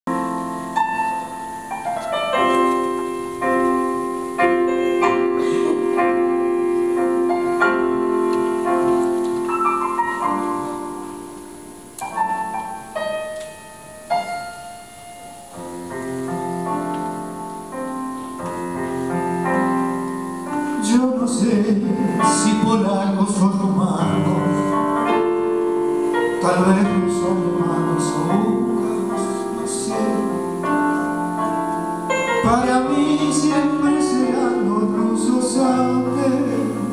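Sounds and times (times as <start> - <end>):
piano: 0.0 - 36.9.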